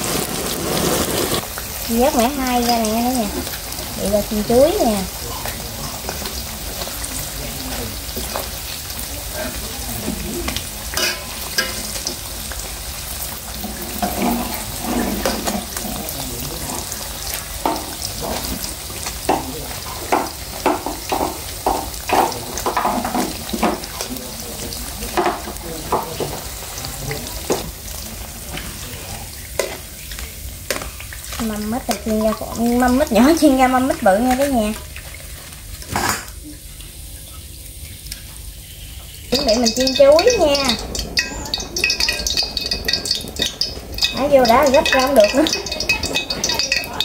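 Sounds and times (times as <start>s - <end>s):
deep-frying oil sizzling: 0.0s - 47.0s.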